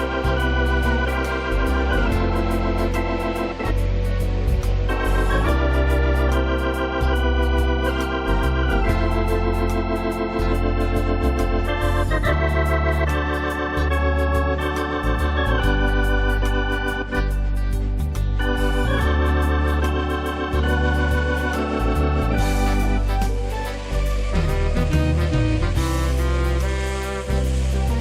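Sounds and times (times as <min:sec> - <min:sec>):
electronic organ playing christmas music: 0:00.0 - 0:28.0.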